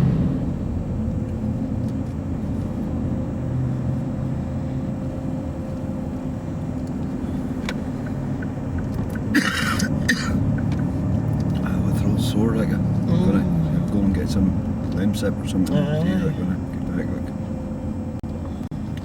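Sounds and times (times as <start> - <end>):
car driving rumble from inside: 0.0 - 19.0.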